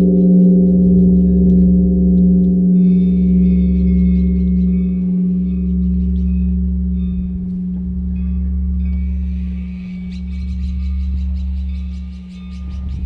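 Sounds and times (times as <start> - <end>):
large bronze bell humming: 0.0 - 13.0.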